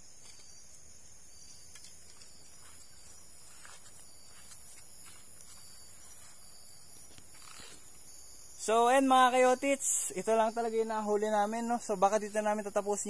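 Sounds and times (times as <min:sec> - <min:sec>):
night insects chorus: 0:00.0 - 0:13.0.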